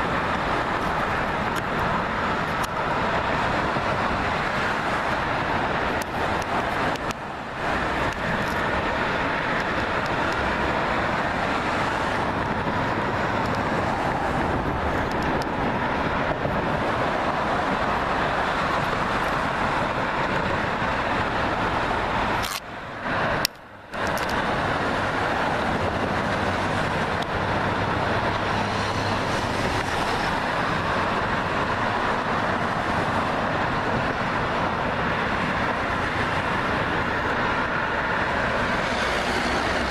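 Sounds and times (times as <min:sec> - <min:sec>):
highway traffic noise: 0:00.0 - 0:39.9.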